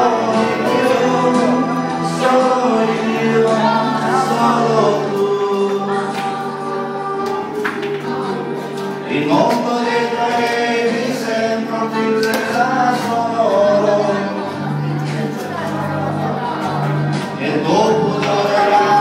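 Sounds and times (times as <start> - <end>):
man singing: 0.0 - 19.0
musical accompaniment: 0.0 - 19.0.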